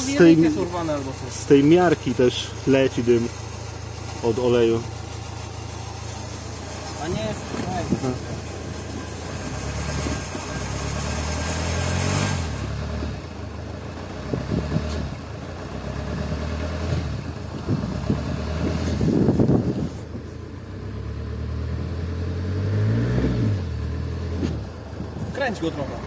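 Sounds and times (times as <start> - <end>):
diesel engine idling unevenly and revving: 0.0 - 26.0.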